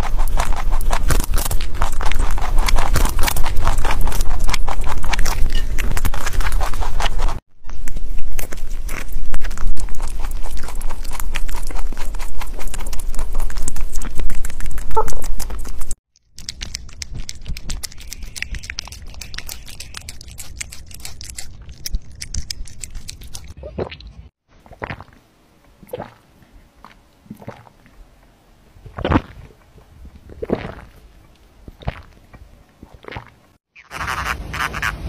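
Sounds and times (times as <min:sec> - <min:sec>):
rabbits crunching fruit: 0:00.0 - 0:28.0, 0:28.8 - 0:35.0.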